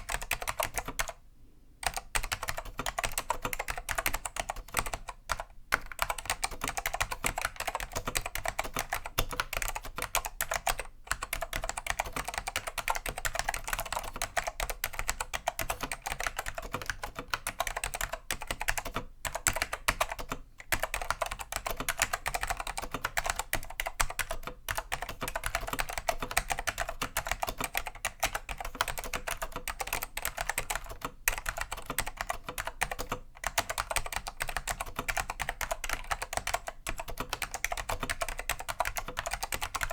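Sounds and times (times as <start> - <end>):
fast keyboard typing clicks: 0.0 - 1.2, 1.8 - 39.9.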